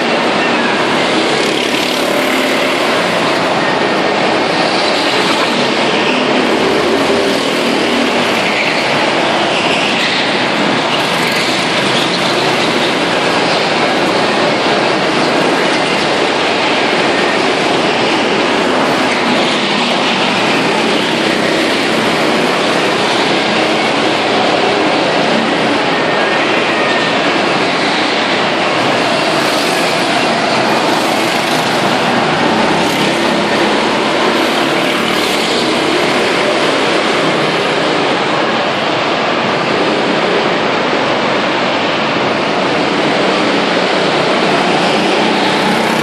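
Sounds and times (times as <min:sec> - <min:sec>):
go-kart engines running: 0:00.0 - 0:46.0.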